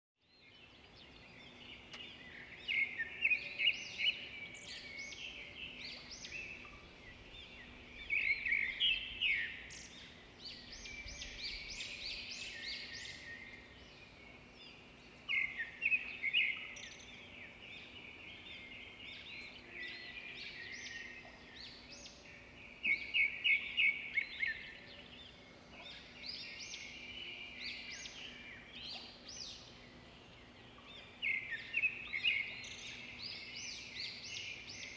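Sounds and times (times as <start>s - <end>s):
birds chirping and singing: 0.3s - 34.9s.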